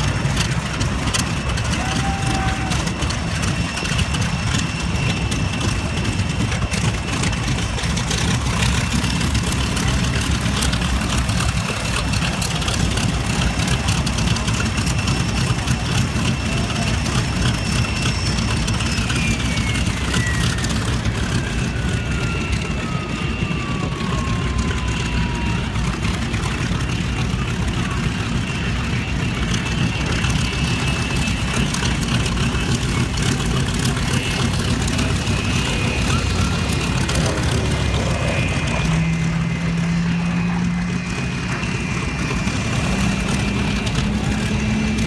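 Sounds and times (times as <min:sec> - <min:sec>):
aircraft engine rumbling: 0:00.0 - 0:45.0.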